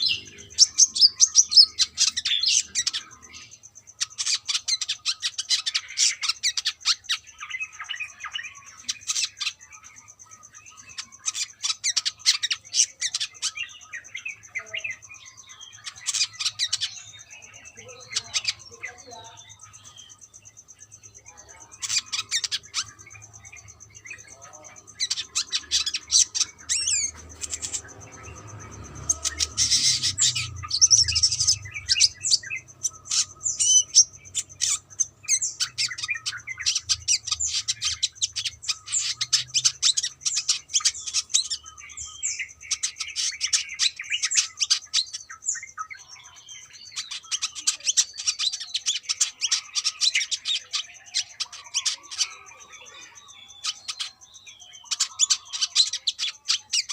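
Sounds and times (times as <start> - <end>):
sunbird chirping and trilling: 0.0 - 56.9.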